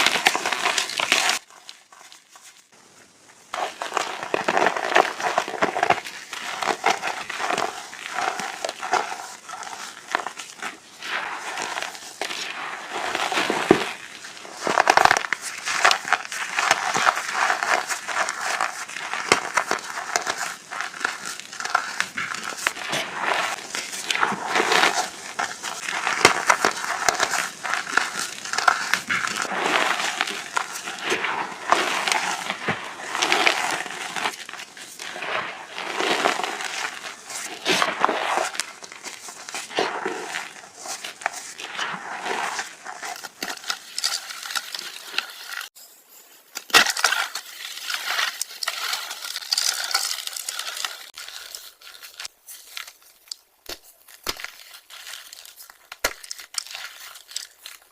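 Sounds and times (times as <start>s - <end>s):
chalk crunching: 0.0s - 2.8s, 3.5s - 45.8s, 46.7s - 57.9s.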